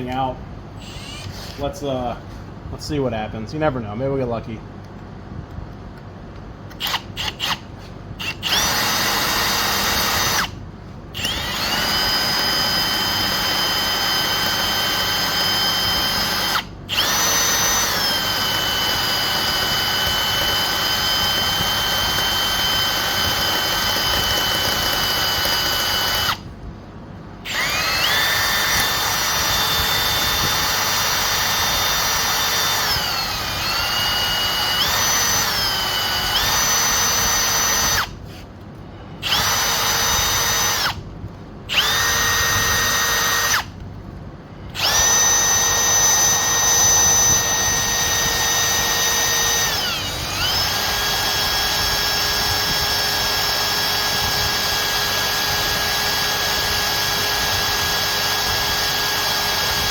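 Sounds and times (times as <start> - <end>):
electric drill whining: 0.8 - 1.7, 6.7 - 26.5, 27.4 - 38.2, 39.2 - 41.0, 41.7 - 43.8, 44.7 - 59.9.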